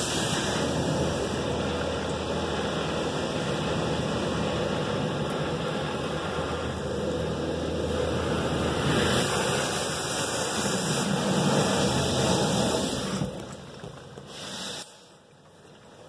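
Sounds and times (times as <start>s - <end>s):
spray jets rushing on a car: 0.0s - 13.5s, 14.2s - 15.2s.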